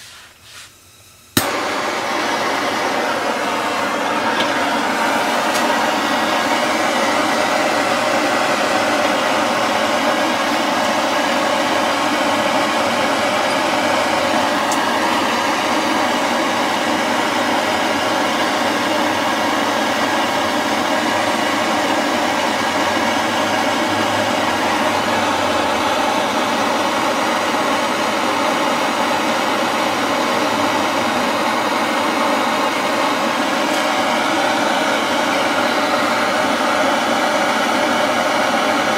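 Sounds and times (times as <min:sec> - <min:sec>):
gas blowtorch hissing: 0:00.0 - 0:38.9.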